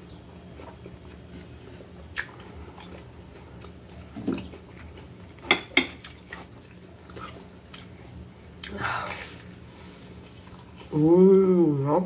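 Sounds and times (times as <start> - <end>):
chewing food: 0.3 - 11.0.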